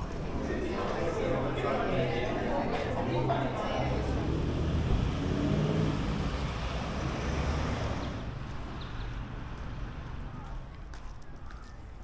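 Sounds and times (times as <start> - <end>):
road traffic rumbling: 0.2 - 10.7.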